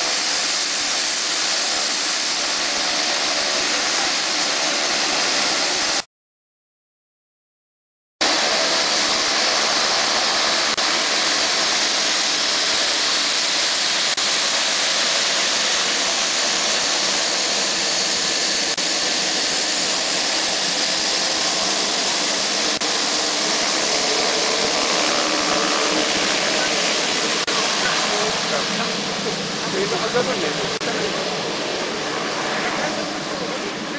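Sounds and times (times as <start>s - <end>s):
turboprop plane taxiing: 0.0s - 6.0s, 8.2s - 33.9s.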